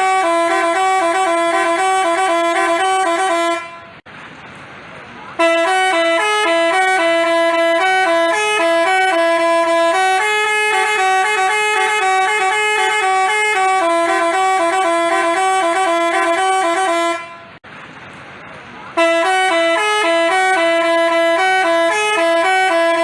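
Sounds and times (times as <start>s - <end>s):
multi-tone musical bus horn: 0.0s - 4.0s, 5.4s - 17.6s, 18.9s - 23.0s.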